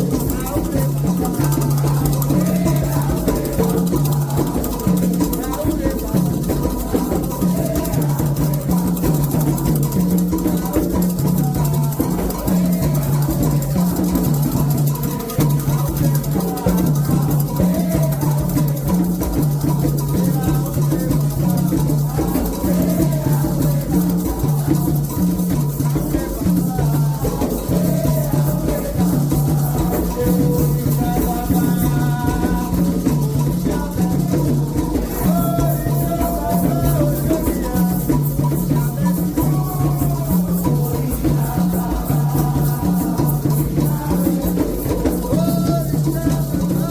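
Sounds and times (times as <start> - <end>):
drum rhythm: 0.0 - 46.9
rattles shaking: 0.0 - 46.9
voices chanting: 0.0 - 46.9.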